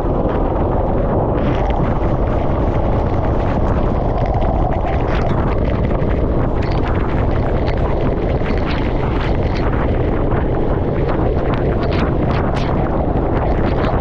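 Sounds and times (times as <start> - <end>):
crackling: 0.0 - 14.0
wind buffeting on microphone: 0.0 - 14.0.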